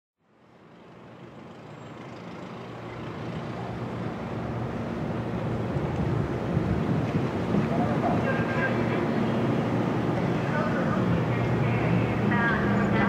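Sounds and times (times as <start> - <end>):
distant traffic noise: 0.2 - 13.0
low engine rumble: 0.3 - 13.0.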